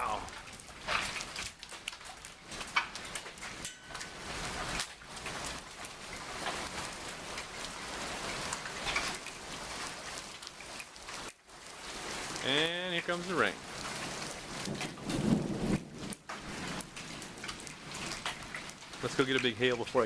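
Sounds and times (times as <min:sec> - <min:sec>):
hail hissing: 0:00.0 - 0:20.0
hailstones cracking on hard surfaces: 0:00.0 - 0:20.0.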